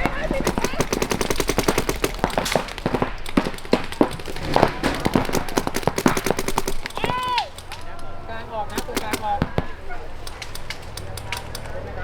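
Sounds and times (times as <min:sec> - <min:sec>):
air guns firing pops: 0:00.0 - 0:08.0, 0:08.7 - 0:11.6.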